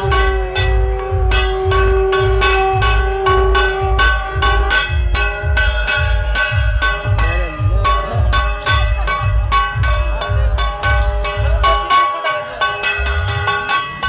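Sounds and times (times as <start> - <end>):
heavy bass beat: 0.0 - 14.0
long held melody note: 0.0 - 14.0
sharp percussion strikes: 0.0 - 14.0.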